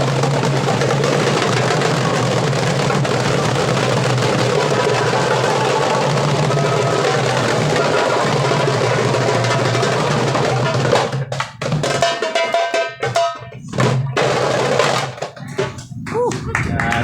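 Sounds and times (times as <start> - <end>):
darbukas drumming: 0.0 - 17.0.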